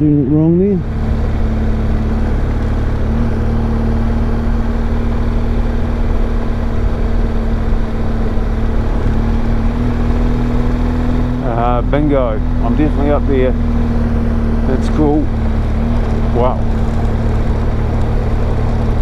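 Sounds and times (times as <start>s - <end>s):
motorcycle engine cruising: 0.0s - 19.0s
road and wind rumble: 0.0s - 19.0s.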